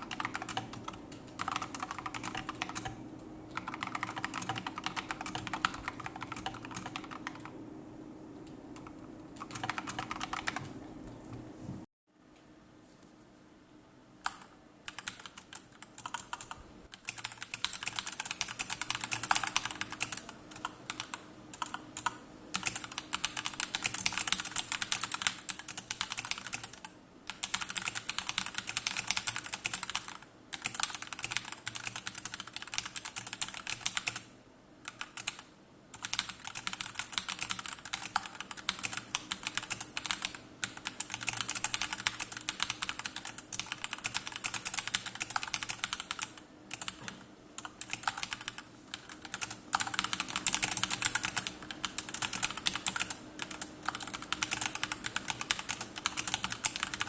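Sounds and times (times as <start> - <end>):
typing on mechanical keyboard: 0.0 - 7.5, 8.8 - 10.7, 14.2 - 34.3, 34.9 - 57.0.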